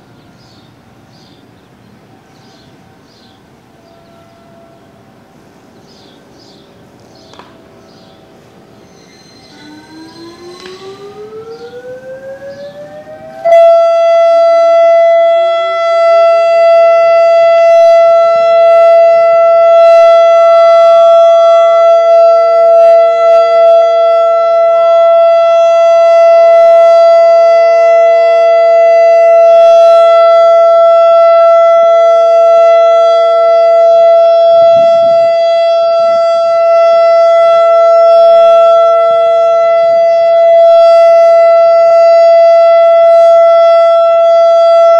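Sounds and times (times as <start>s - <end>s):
electronic warning siren: 2.5s - 44.9s
lower sliding siren tone: 7.2s - 44.9s.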